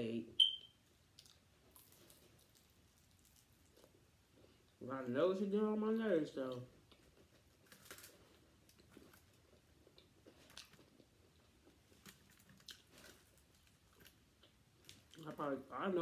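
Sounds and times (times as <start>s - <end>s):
chewing crispy chicken: 0.9s - 4.8s, 6.4s - 15.5s.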